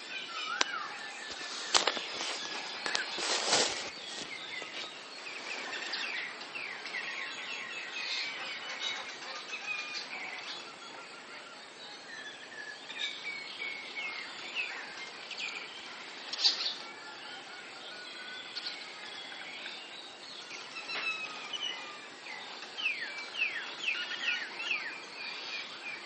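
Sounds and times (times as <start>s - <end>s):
small birds chirping and singing: 0.0s - 26.0s
steady background hiss: 0.0s - 26.0s.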